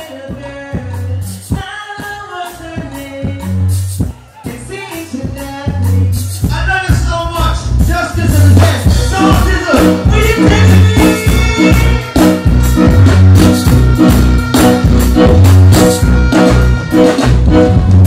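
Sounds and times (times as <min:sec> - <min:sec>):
loud music with heavy bass: 0:00.0 - 0:18.0.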